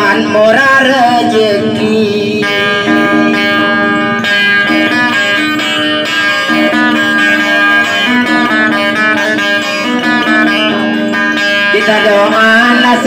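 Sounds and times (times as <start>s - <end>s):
acoustic guitar picking melody: 0.0s - 13.0s.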